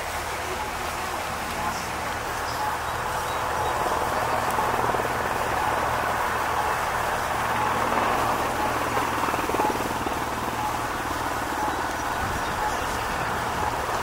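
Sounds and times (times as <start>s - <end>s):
helicopter rotor beating: 0.0s - 14.0s
turbine engines running: 0.0s - 14.0s.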